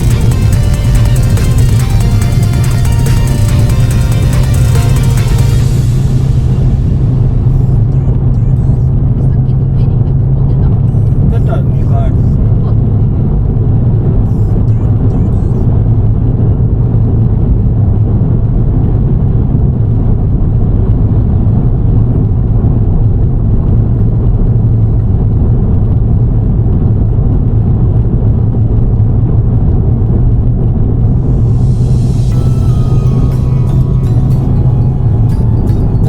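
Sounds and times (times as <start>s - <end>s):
car cabin engine and road drone: 0.0s - 36.0s.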